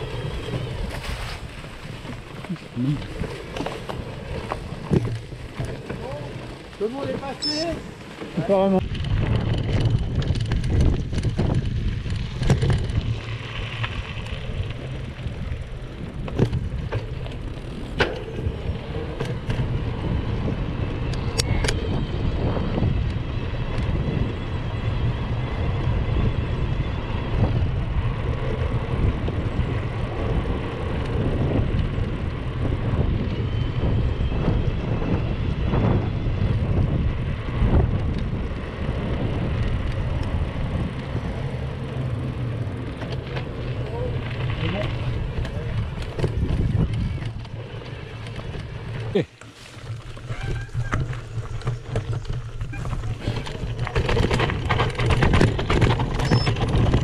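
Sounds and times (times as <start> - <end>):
bike rattles and knocks: 0.0 - 24.8, 27.3 - 57.0
wind on microphone: 0.0 - 49.2, 49.8 - 57.0
bike tyres rumbling: 0.0 - 57.0.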